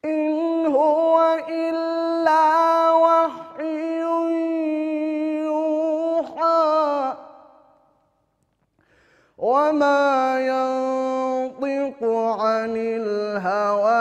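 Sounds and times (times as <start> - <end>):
man chanting melodically: 0.0 - 7.5, 9.4 - 14.0.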